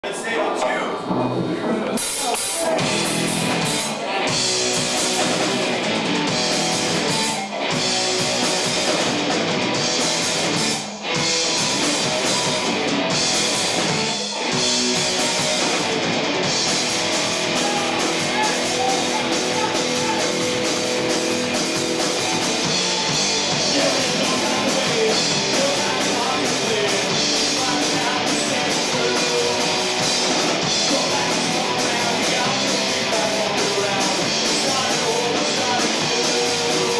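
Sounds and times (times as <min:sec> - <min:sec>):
rock band playing: 0:00.9 - 0:36.9.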